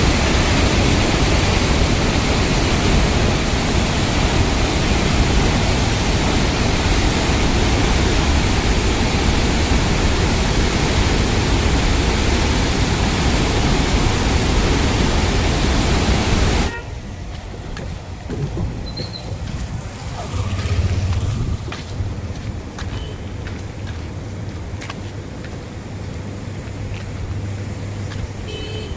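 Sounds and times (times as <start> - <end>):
water rushing through spillway: 0.0 - 26.4.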